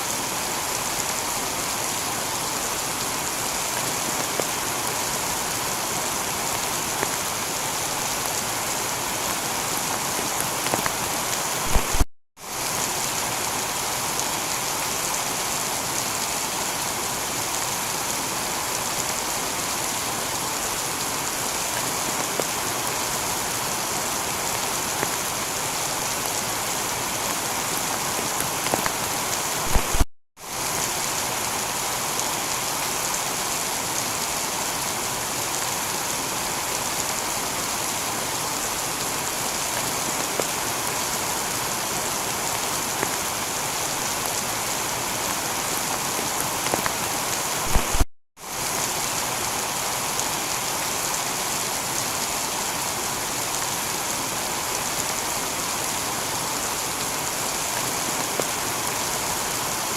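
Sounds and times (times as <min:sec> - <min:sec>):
heavy rain on a tiled roof: 0:00.0 - 0:59.9.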